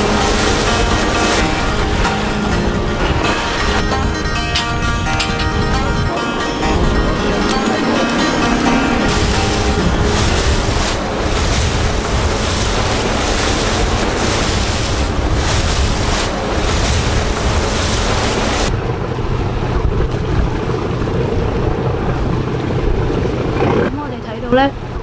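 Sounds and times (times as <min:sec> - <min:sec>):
boat engine low rumble: 0:00.0 - 0:25.0
waves washing: 0:00.0 - 0:25.0
wind buffeting microphone: 0:00.0 - 0:25.0.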